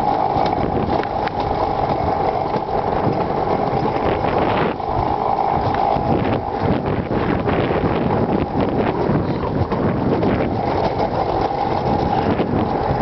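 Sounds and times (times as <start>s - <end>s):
coaster sled rolling rumble: 0.0s - 13.0s
steady whine: 0.0s - 13.0s.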